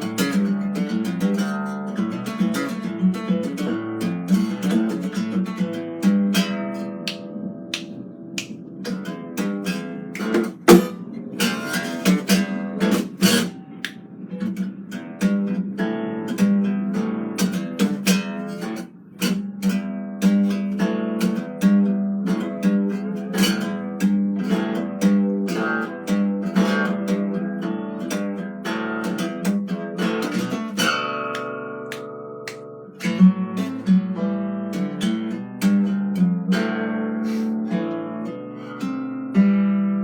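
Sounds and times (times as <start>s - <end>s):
fingerstyle acoustic guitar: 0.0s - 40.0s.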